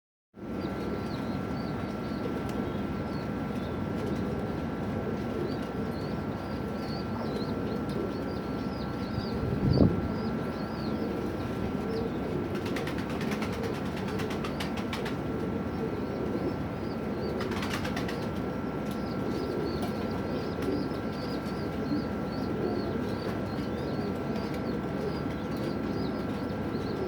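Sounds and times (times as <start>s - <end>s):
faint steady hum: 0.4s - 27.0s
low murmur of birds: 0.4s - 27.0s.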